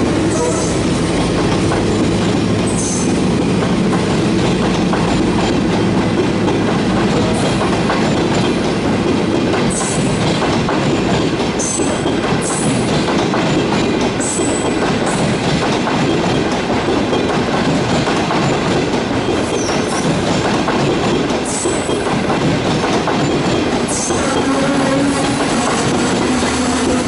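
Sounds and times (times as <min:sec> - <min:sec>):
steel wheels rumbling on rail: 0:00.0 - 0:27.0
wheels clacking over rail joints: 0:00.4 - 0:27.0.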